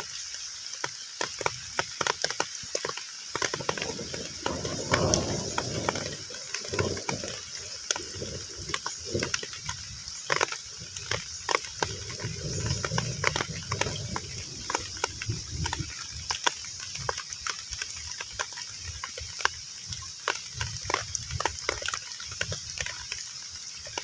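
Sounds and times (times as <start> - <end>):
heavy rain on a pond: 0.0 - 24.0.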